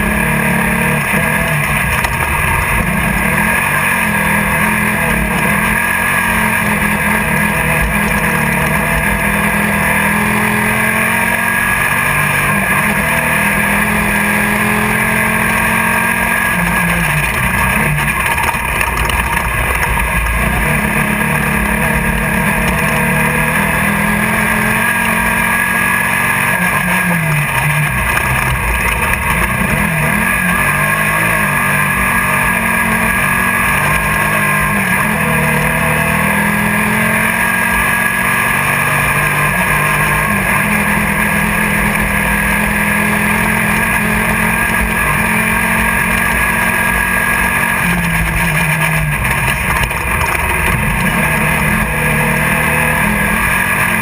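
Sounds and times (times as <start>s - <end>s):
buggy engine running hard: 0.0s - 54.0s.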